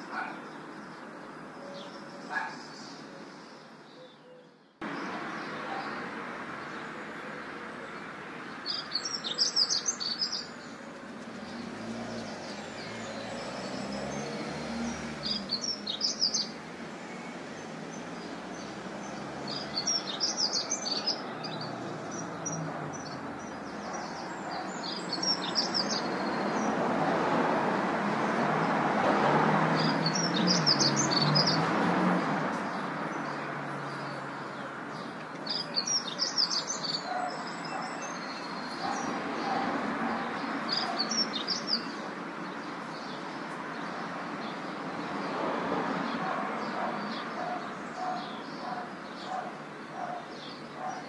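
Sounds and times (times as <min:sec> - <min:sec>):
city noise: 0:00.0 - 0:51.0.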